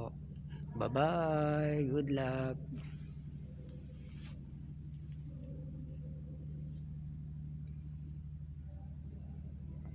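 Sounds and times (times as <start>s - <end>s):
low machine hum: 0.0s - 9.9s.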